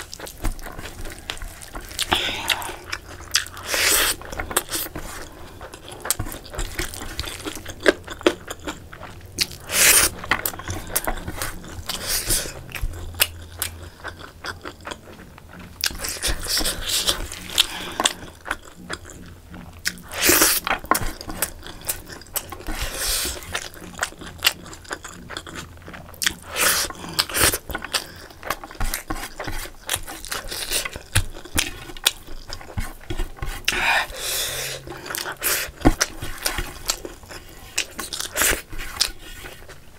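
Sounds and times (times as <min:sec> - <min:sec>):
person chewing and smacking: 0:00.0 - 0:39.9.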